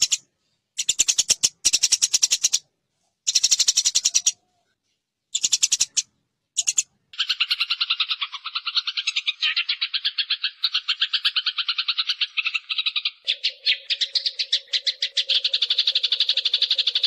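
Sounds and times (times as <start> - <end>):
sparrows chirping harshly: 0.0 - 4.4, 5.3 - 17.0.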